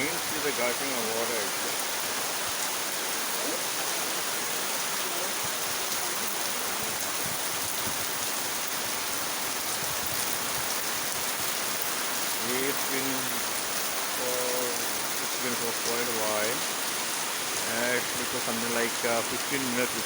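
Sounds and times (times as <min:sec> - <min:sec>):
heavy rain pouring: 0:00.0 - 0:20.0
rainwater gushing through gutters: 0:00.0 - 0:20.0.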